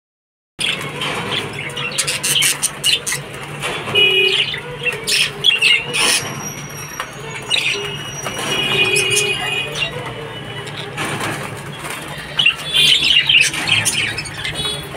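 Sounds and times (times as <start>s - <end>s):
budgerigars chirping: 0.6s - 14.9s.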